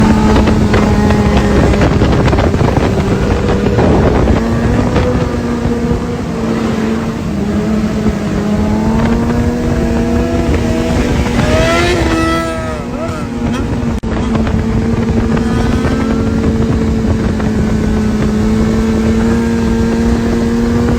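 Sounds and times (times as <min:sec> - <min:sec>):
motorcycle engine running: 0:00.0 - 0:20.9
wind buffeting microphone: 0:00.0 - 0:20.9.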